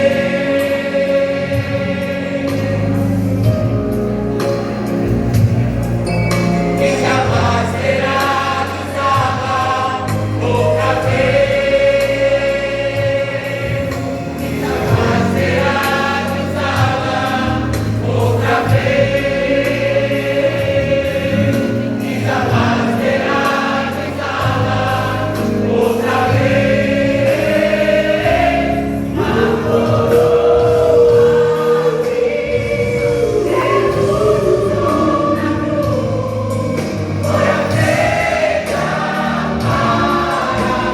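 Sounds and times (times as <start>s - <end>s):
instrumental backing: 0.0s - 40.9s
vocal group singing a hymn: 0.0s - 40.9s.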